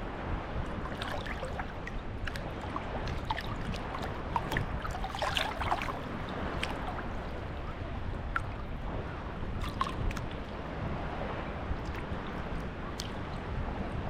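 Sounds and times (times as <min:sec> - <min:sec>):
small waves washing on shore: 0:00.0 - 0:14.0.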